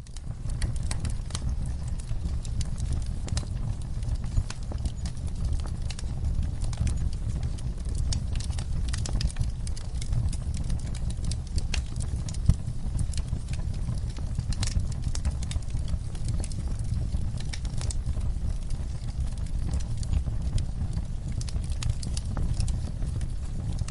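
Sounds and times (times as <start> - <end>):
burning wood popping: 0.0 - 23.9
campfire flames rumbling: 0.0 - 23.9.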